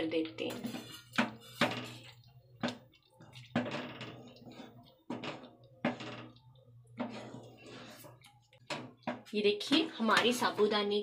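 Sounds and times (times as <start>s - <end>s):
spatula scraping pan: 0.4s - 10.8s.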